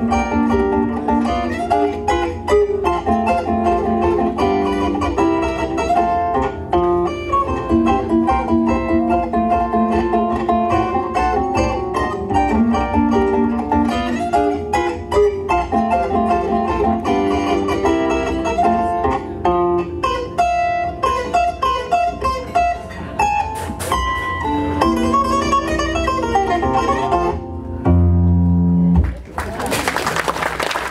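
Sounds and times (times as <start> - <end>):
zither plucked tune: 0.0 - 28.8.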